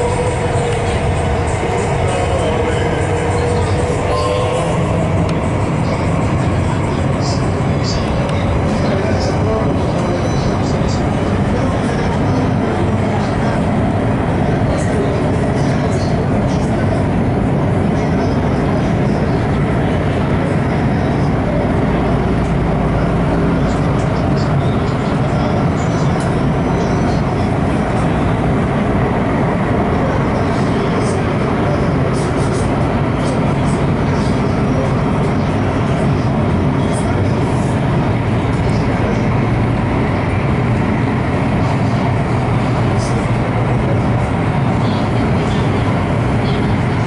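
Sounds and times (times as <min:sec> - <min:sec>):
train rumbling in tunnel: 0:00.0 - 0:47.0.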